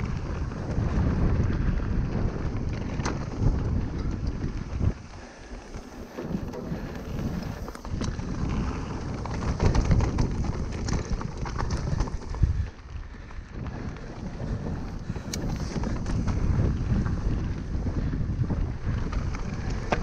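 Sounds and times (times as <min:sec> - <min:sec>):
bike tyres on loose gravel: 0:00.0 - 0:20.0
stones and bike rattling: 0:00.0 - 0:20.0
wind buffeting microphone: 0:00.0 - 0:20.0.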